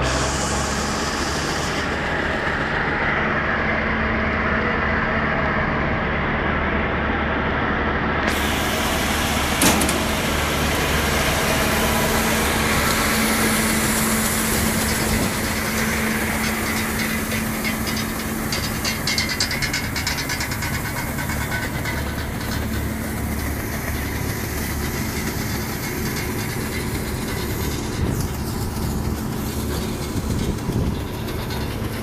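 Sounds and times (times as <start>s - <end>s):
combine harvester running: 0.0s - 32.0s.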